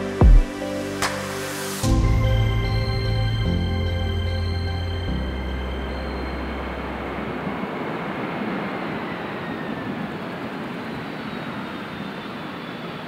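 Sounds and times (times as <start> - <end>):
faint falling whine: 0.0 - 13.0
jet engines rushing: 0.0 - 13.0.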